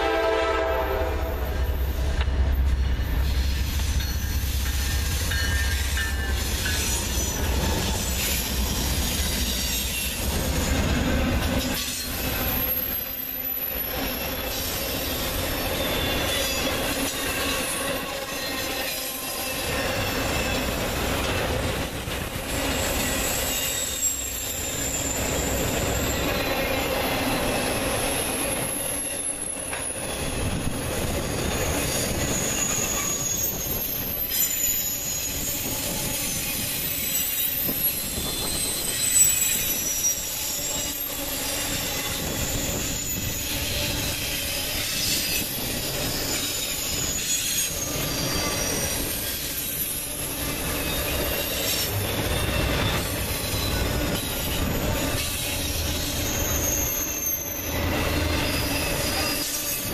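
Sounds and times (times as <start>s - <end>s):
train wheels on rails: 0.0s - 59.9s
high wheel squeal: 3.1s - 21.4s, 22.4s - 59.9s.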